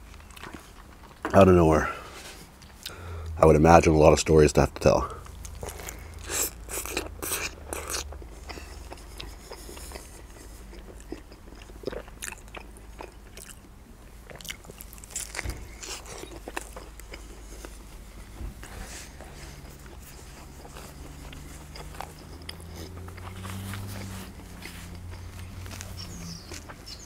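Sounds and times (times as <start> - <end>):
close chewing and biting: 0.0 - 1.3, 5.2 - 27.0.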